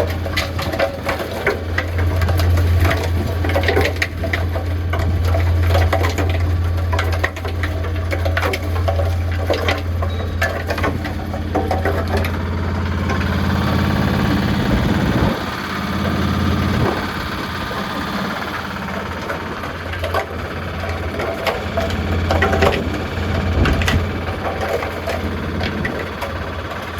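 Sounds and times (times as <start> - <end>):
concrete mixer motor hum: 0.0 - 26.9.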